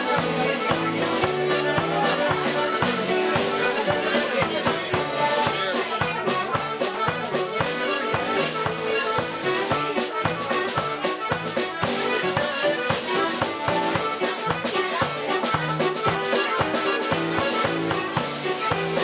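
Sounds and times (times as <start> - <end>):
accordion playing folk tune: 0.0 - 19.0
snare drum beat: 0.0 - 19.0.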